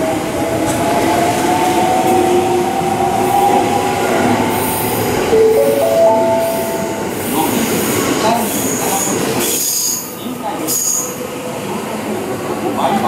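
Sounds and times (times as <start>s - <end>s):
train cars rumbling: 0.0s - 13.0s.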